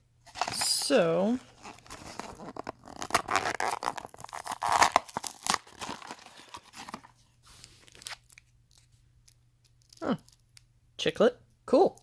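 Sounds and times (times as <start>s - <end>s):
wrapper rustling and clicking: 0.2s - 10.4s
packaging wrapper tearing: 0.3s - 10.4s.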